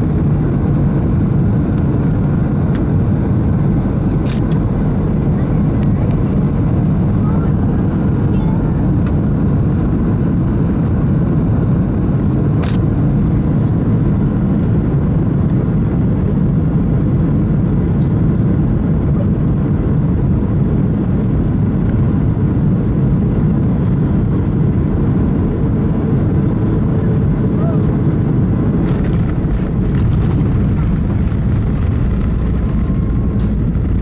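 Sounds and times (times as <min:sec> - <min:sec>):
airliner cabin engine rumble: 0:00.0 - 0:34.0.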